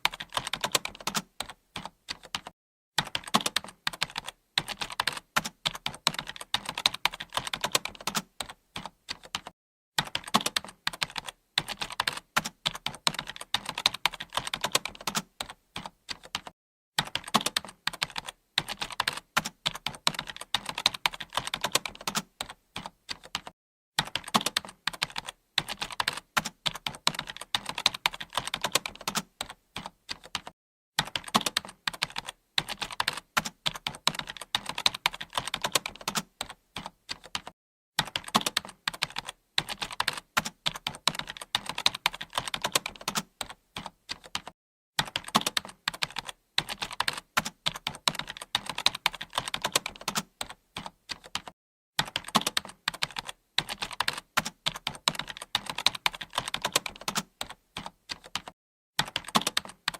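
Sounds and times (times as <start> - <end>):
fast keyboard typing: 0.0 - 59.9.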